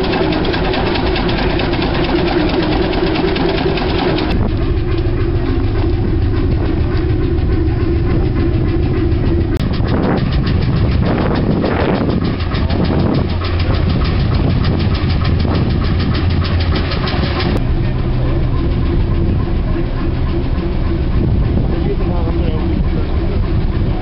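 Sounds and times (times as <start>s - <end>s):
engines knocking rapidly: 0.0s - 24.0s.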